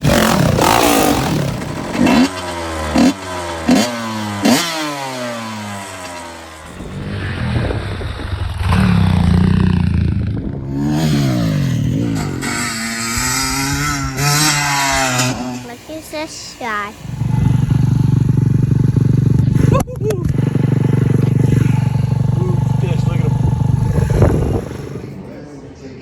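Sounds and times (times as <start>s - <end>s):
two-stroke engine revving: 0.0s - 25.4s.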